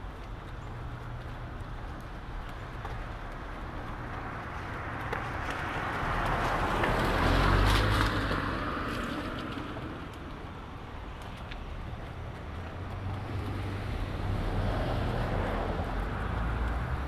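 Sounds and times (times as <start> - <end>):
raindrops ticking on umbrella: 0.0 - 17.0
car passing on wet road: 0.9 - 17.0.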